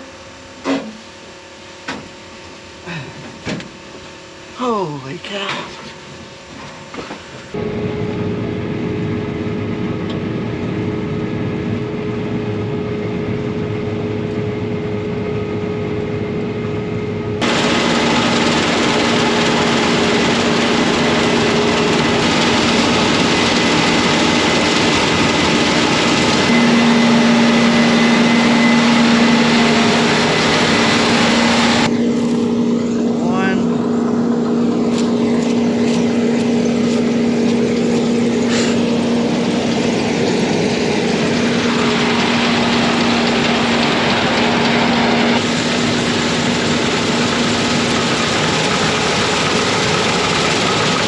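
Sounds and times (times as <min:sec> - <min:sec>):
engine humming: 0:02.8 - 0:51.0.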